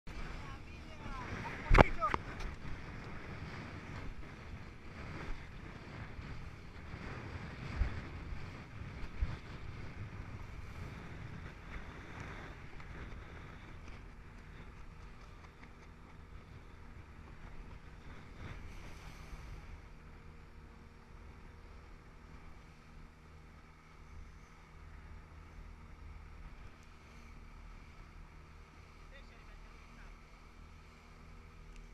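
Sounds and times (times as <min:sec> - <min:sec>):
wind buffeting microphone: 0:00.1 - 0:26.8.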